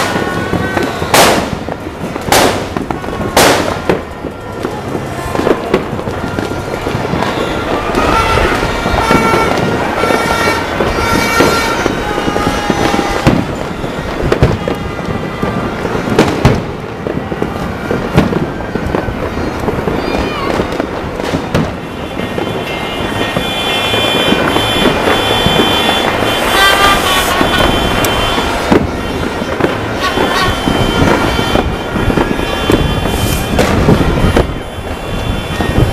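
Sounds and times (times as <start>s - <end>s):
fireworks and firecrackers banging: 0.0s - 35.9s.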